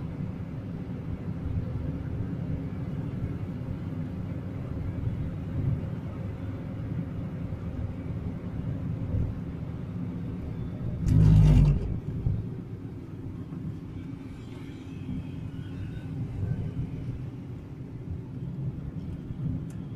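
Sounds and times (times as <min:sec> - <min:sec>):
car engine and tyre rumble: 0:00.0 - 0:19.9.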